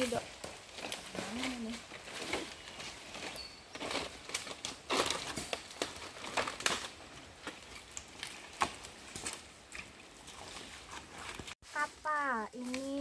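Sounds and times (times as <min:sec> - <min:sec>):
footsteps crunching dry fronds: 0:00.0 - 0:13.0.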